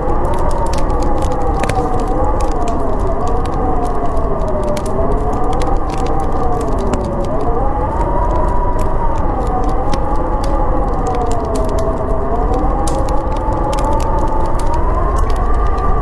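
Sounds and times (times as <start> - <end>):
howling storm wind: 0.0 - 16.0
wood fire crackling: 0.0 - 16.0.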